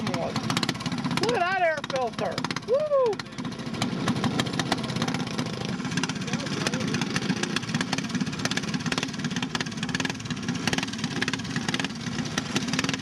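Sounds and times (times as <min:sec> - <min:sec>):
go-kart engine running: 0:00.0 - 0:13.0.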